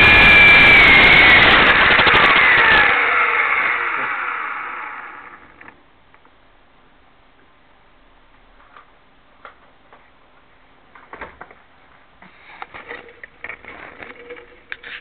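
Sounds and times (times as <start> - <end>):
faint steady hum: 2.9 - 15.0.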